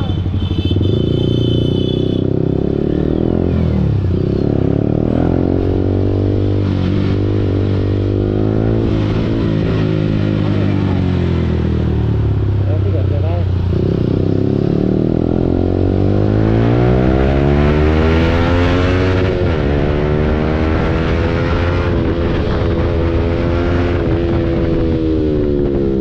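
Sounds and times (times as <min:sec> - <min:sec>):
motorcycle engine accelerating hard: 0:00.0 - 0:26.0.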